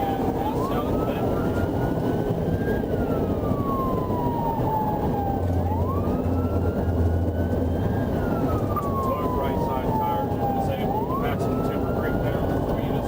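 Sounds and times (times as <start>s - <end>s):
car road and engine noise: 0.0s - 13.0s
police siren wailing: 0.0s - 13.0s.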